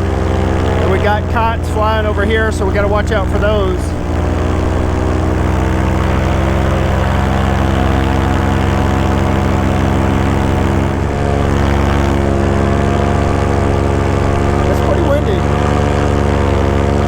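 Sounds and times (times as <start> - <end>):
paramotor engine and propeller: 0.0 - 17.0.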